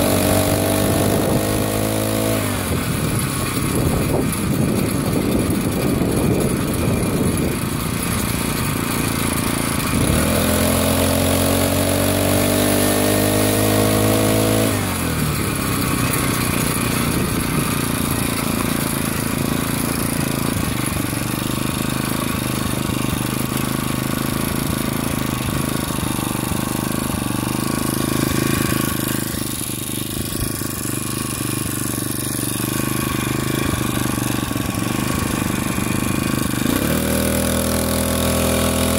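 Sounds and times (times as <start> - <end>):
small gas engine running: 0.0 - 38.9.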